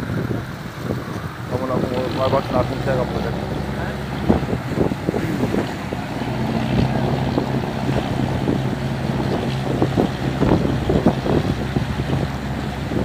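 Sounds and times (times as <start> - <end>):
boat engine humming: 0.0 - 13.0
wind buffeting microphone: 0.0 - 13.0.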